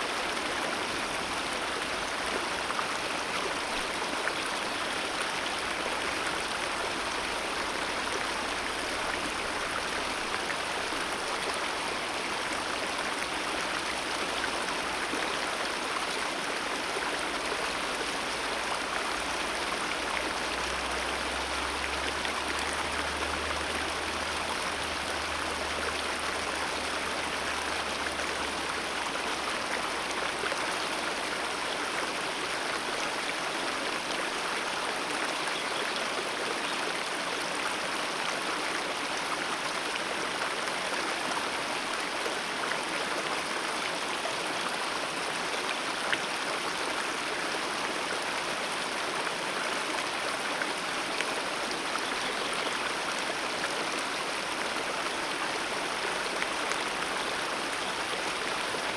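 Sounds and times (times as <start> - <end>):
mountain river flowing: 0.0 - 58.9.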